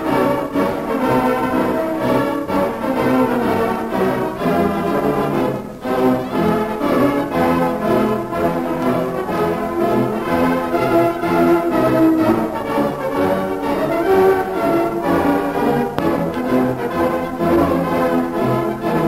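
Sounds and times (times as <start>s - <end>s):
orchestral music with brass: 0.0s - 19.0s.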